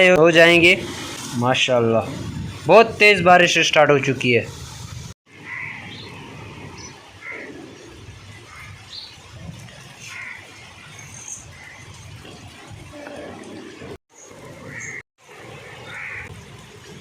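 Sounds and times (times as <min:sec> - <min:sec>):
rain: 0:00.2 - 0:02.7, 0:04.5 - 0:17.0.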